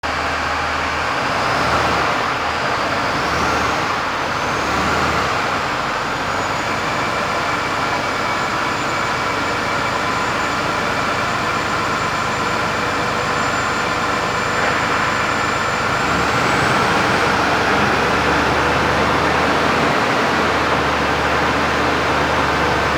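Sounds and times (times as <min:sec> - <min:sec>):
diesel truck engine rumbling: 0:00.0 - 0:22.9.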